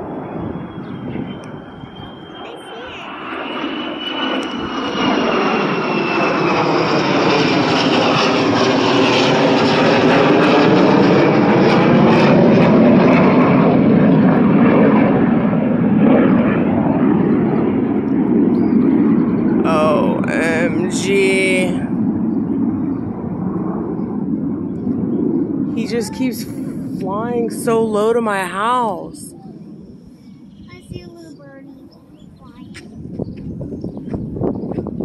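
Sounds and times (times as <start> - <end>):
jet engine rushing overhead: 0.0 - 35.0.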